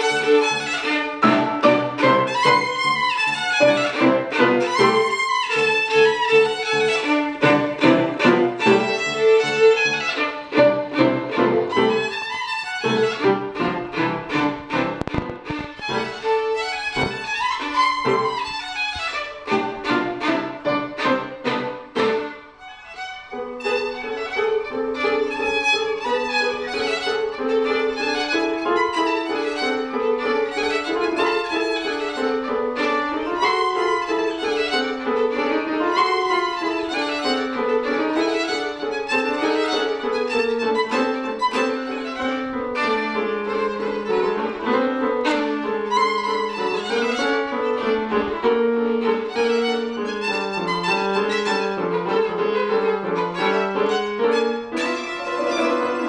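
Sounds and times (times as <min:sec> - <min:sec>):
grand piano: 0:00.0 - 0:56.0
violin: 0:00.0 - 0:56.0.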